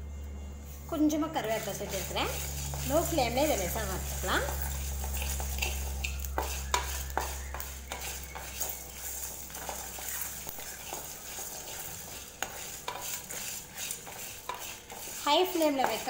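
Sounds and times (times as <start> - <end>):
low steady hum: 0.0 - 16.0
wooden spatula scraping a pan: 0.8 - 16.0
seeds clicking in a pan: 1.6 - 16.0.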